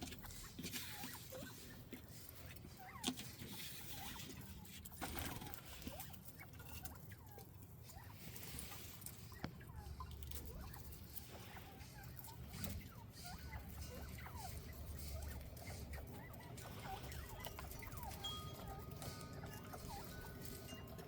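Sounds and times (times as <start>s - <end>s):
quail chirping calls: 0.0s - 21.0s.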